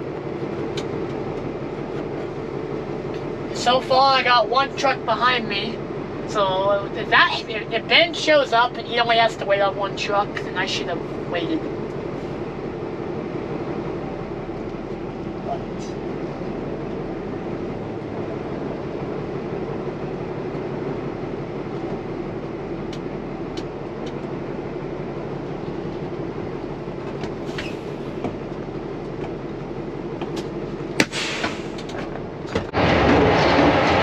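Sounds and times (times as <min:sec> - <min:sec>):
diesel engine idling: 0:00.0 - 0:34.0
loud mechanical rumble: 0:00.0 - 0:34.0.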